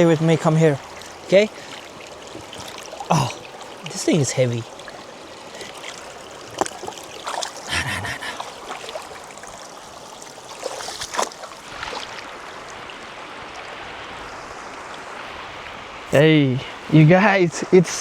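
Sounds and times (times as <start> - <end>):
river water over rocks: 0.0 - 17.0.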